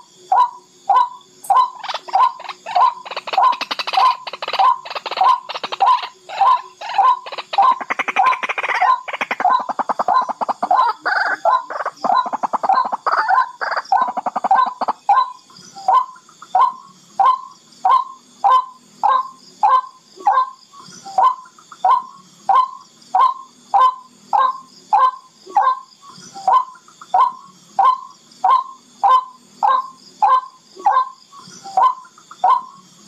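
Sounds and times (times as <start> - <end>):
rail bird calling: 0.3 - 32.8.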